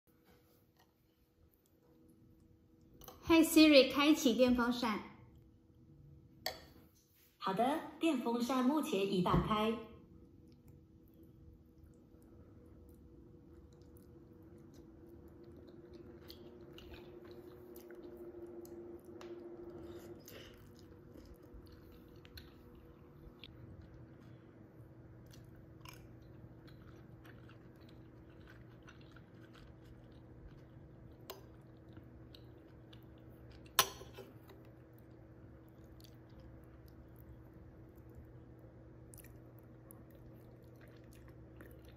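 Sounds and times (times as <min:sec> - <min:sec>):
quiet chewing: 0:00.2 - 0:03.2, 0:10.2 - 0:41.9
electric fan running: 0:08.1 - 0:41.9.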